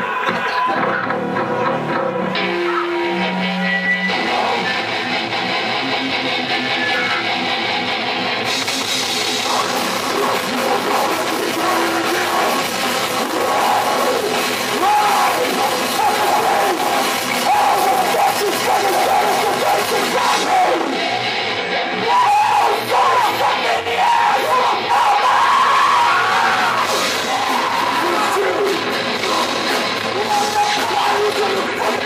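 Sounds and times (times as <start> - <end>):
heavy metal band playing live: 0.0 - 32.0.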